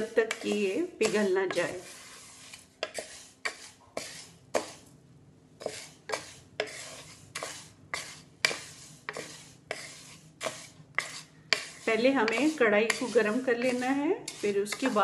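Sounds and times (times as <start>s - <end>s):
spatula scraping sugar in pan: 0.0s - 5.0s, 5.6s - 15.0s.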